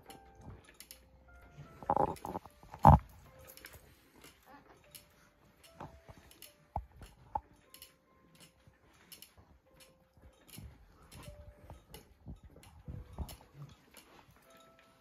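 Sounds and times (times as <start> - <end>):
cradle swing squeaks: 0.0 - 15.0
cradle swing ticking and clicking: 0.0 - 15.0.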